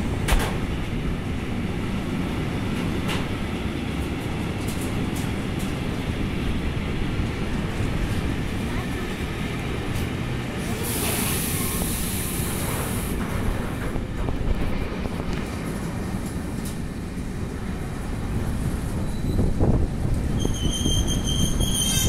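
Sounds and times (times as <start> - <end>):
freight train wheels rattling on rail: 0.0 - 22.0.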